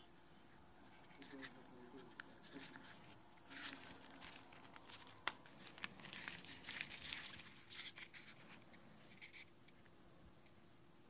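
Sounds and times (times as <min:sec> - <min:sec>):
plastic handling clicks and rustles: 0:01.0 - 0:09.9.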